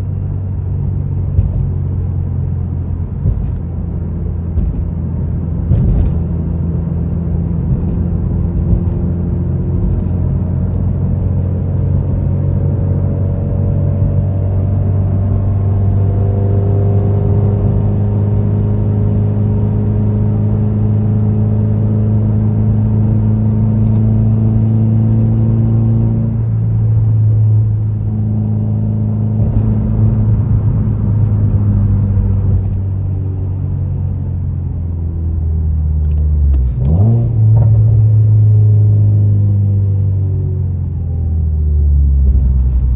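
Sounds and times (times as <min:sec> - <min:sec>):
car engine cruising: 0:00.0 - 0:42.9
road noise: 0:00.0 - 0:42.9.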